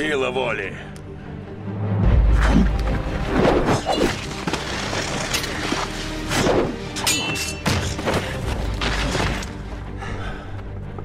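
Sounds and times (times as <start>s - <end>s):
soundtrack music: 0.0s - 11.0s.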